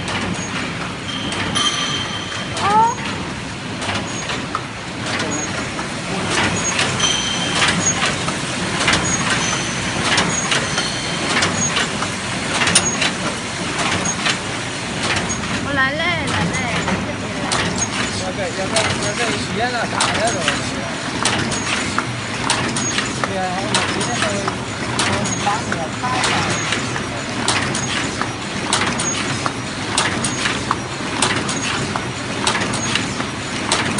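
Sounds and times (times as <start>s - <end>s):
machine clattering and clacking: 0.0s - 33.9s
machine squeaks: 0.2s - 3.2s, 3.8s - 4.5s, 5.1s - 14.4s, 15.0s - 33.9s.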